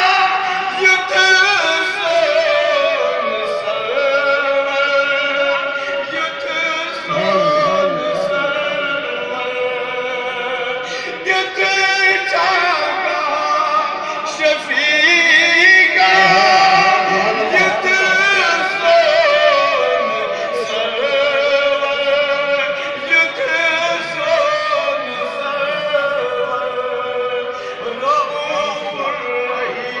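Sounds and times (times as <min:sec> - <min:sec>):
men singing a chant: 0:00.0 - 0:30.0.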